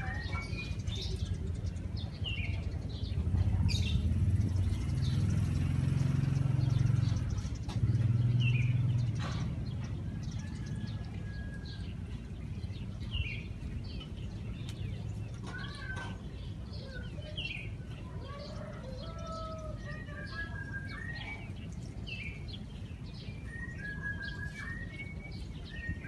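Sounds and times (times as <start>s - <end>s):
low engine rumble: 0.0s - 26.0s
small birds chirping: 0.0s - 26.0s.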